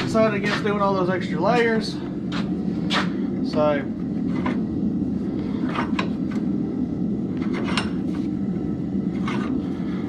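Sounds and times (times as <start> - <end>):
forge roaring: 0.0 - 10.0.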